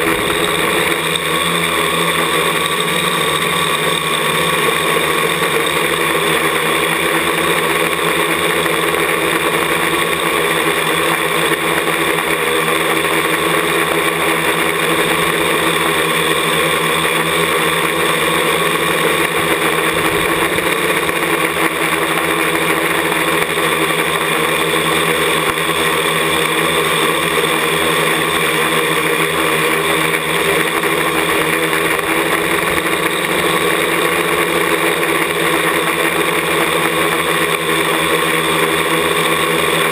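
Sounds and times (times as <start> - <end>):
drone motors and propellers whirring: 0.0 - 39.9.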